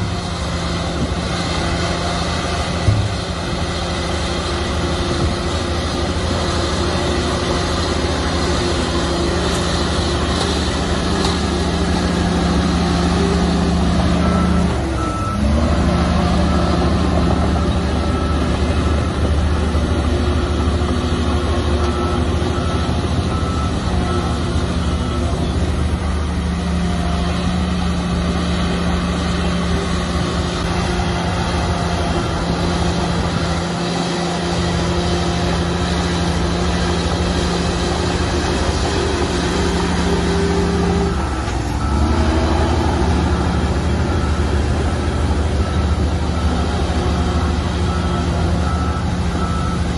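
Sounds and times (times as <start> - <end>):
bulldozer diesel engine running: 0.0 - 49.9
reversing alarm beeping: 6.0 - 49.9.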